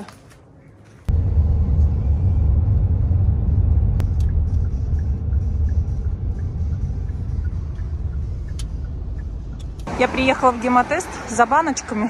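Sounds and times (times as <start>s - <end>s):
car road rumble: 0.8s - 12.0s.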